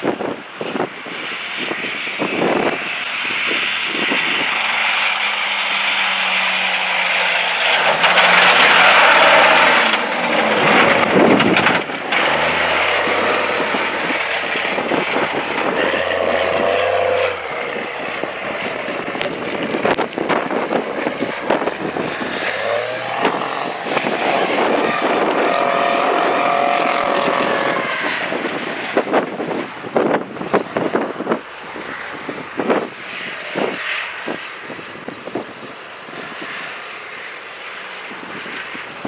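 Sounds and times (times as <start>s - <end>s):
truck engine revving: 0.2s - 31.4s.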